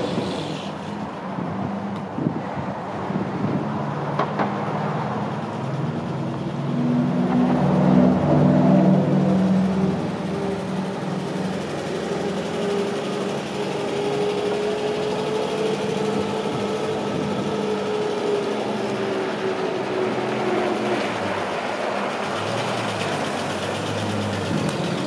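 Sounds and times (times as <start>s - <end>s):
truck engine driving past: 3.0s - 25.0s.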